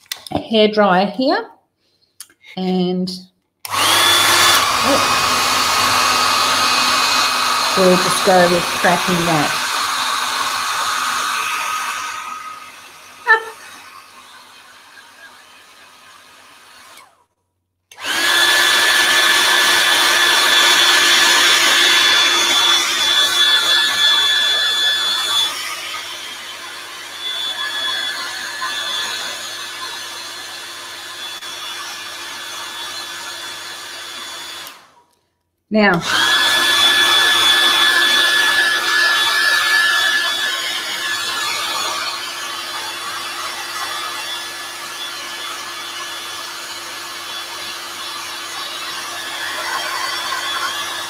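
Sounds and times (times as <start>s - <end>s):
hair dryer blowing: 3.6s - 17.3s, 17.9s - 35.0s, 35.8s - 51.0s.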